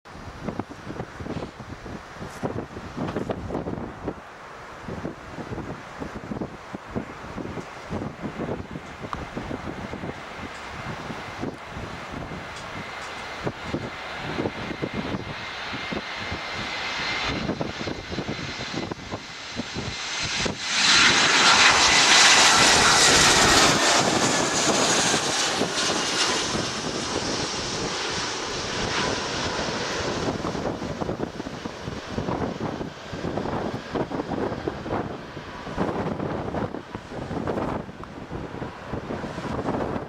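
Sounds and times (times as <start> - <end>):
wind buffeting microphone: 0.1 - 40.0
jet engines whining: 0.2 - 40.0.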